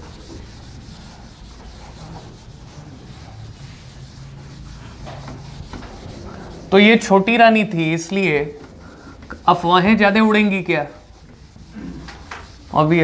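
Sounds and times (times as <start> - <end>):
duster rubbing a whiteboard: 0.0 - 13.0.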